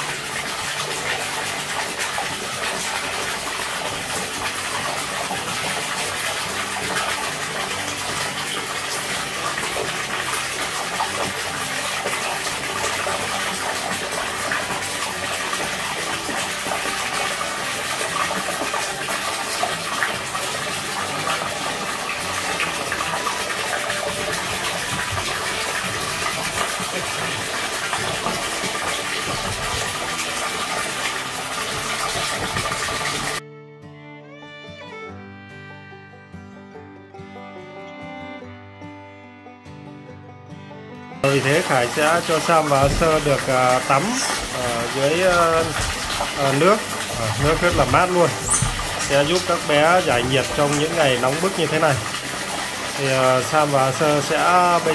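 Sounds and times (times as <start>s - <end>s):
water pouring into a pool: 0.0s - 33.4s, 41.2s - 54.9s.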